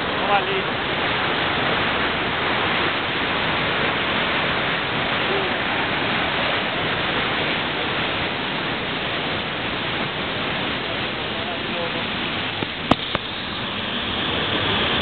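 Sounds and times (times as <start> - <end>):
waterfall pouring over rock: 0.0 - 15.0.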